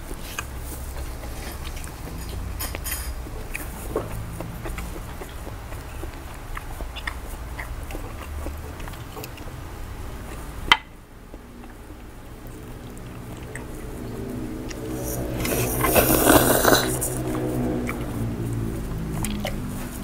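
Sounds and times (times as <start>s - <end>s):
chewing: 0.0s - 20.0s
low steady hum: 0.0s - 20.0s.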